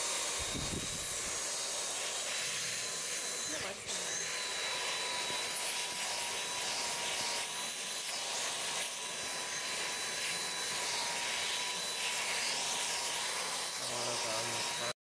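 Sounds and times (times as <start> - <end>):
stick vacuum cleaner running: 0.0 - 15.0.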